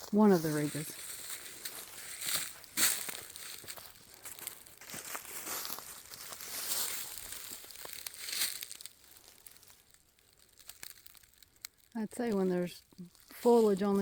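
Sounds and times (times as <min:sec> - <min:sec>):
footsteps on dry leaves: 0:00.0 - 0:14.0.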